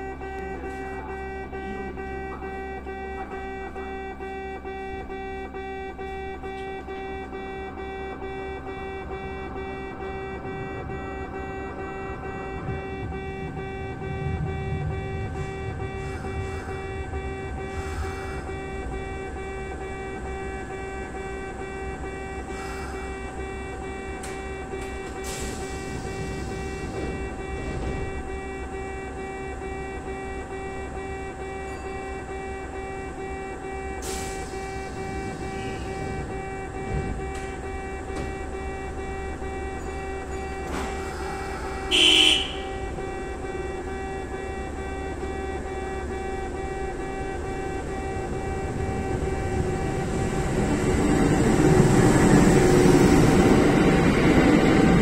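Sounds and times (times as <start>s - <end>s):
level-crossing warning bell: 0.0s - 55.0s.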